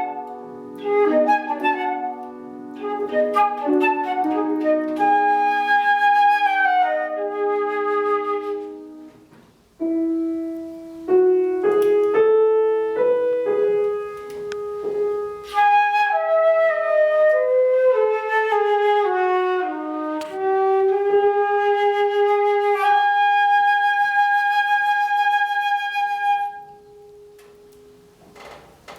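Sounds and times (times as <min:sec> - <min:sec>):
melody instrument and piano: 0:00.0 - 0:28.2.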